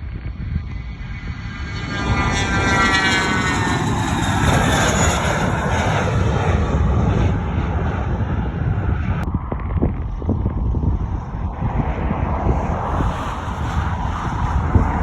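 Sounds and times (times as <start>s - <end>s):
airplane passing overhead: 0.0s - 15.0s.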